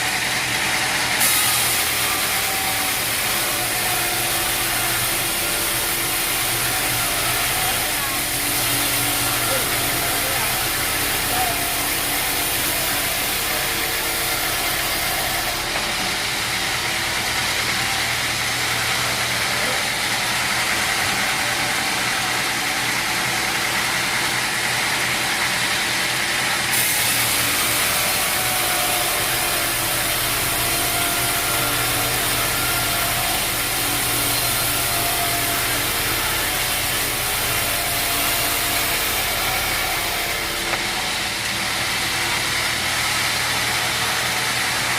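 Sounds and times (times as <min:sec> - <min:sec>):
machinery hum: 0:00.0 - 0:44.9.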